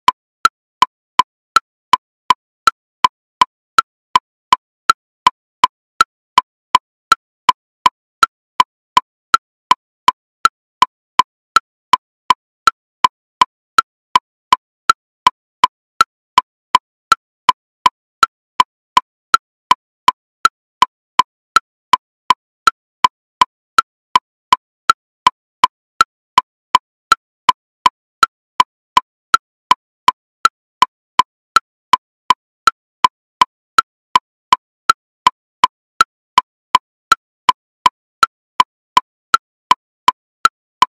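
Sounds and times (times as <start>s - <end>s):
metronome clicking: 0.0s - 40.9s.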